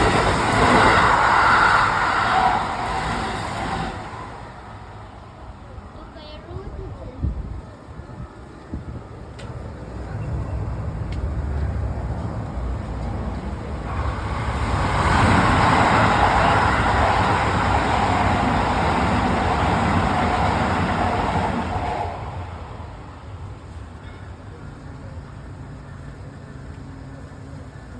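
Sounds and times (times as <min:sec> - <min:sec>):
train passing at high speed: 0:00.0 - 0:27.9.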